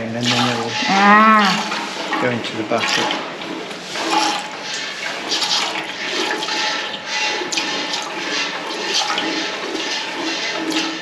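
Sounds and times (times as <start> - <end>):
milk squirting into bucket: 1.5 - 11.0.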